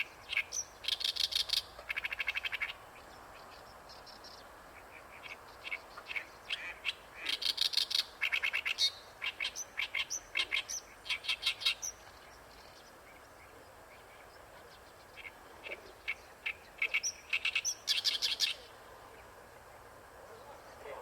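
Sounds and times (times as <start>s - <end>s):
reed warbler singing: 0.0s - 21.0s.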